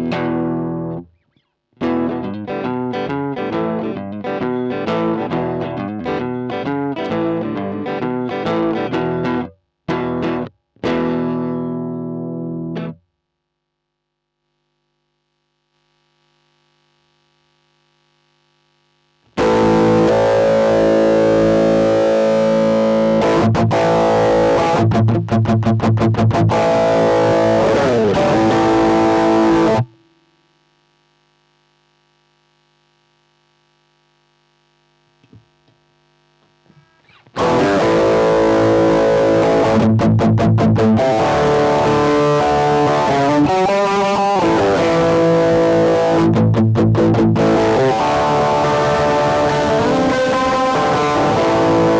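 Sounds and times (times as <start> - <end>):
distorted electric guitar chords: 0.0 - 13.1, 15.2 - 51.9.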